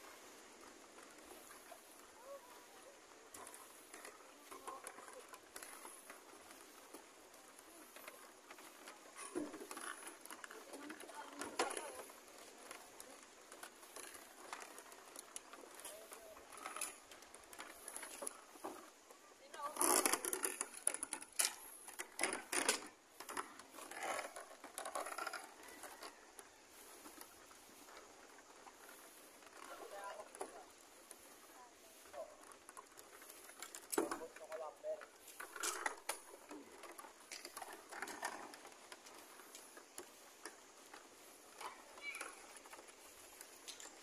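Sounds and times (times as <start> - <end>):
footsteps on wooden planks: 0.1 - 44.0.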